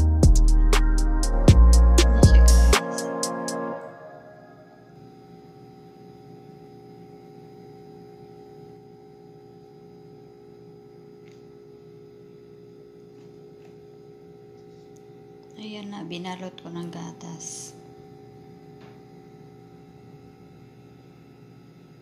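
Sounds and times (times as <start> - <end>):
faint steady tonal hum: 0.0 - 22.0.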